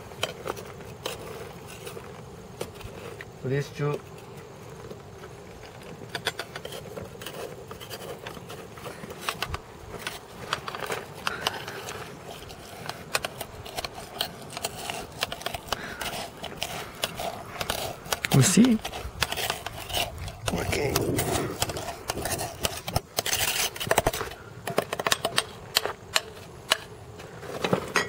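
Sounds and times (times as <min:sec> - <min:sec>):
muddler grinding in metal shaker: 0:00.0 - 0:28.0.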